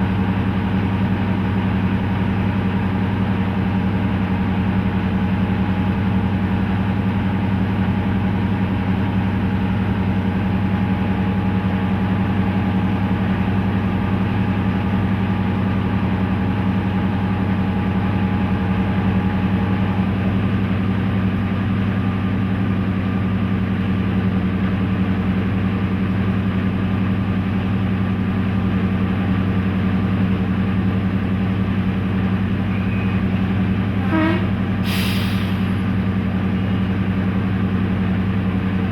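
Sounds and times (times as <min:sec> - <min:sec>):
diesel locomotive engine drone: 0:00.0 - 0:38.9.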